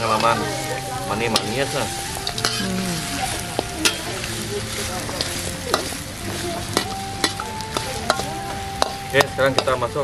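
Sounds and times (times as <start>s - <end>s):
metal spatula scraping wok: 0.0s - 10.0s
sizzle of frying in oil: 0.0s - 10.0s.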